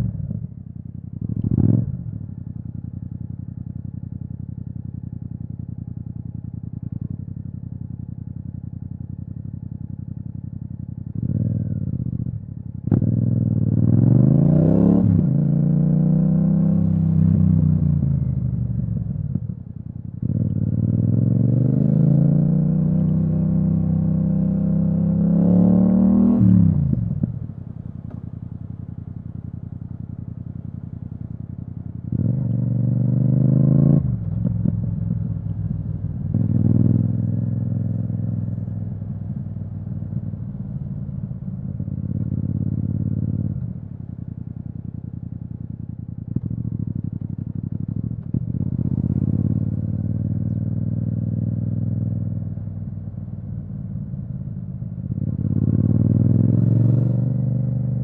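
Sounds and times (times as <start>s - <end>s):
motorcycle engine revving: 1.2s - 2.3s, 9.7s - 19.6s, 20.2s - 54.0s, 55.1s - 58.0s.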